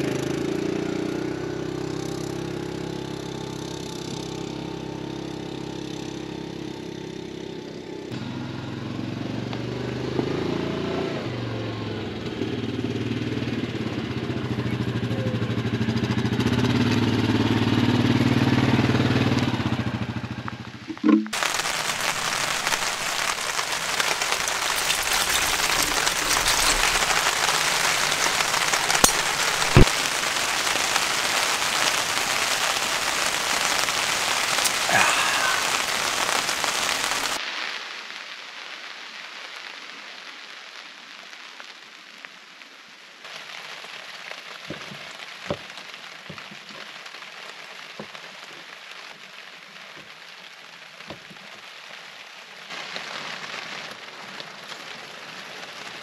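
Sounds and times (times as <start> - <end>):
heavy rain on a tarp: 0.0 - 56.0.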